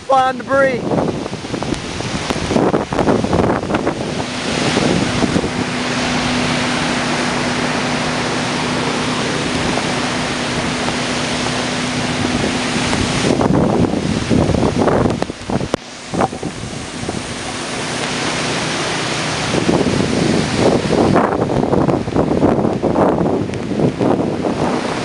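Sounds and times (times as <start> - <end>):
strong wind buffeting microphone: 0.0 - 25.0
steady low hum: 1.0 - 25.0.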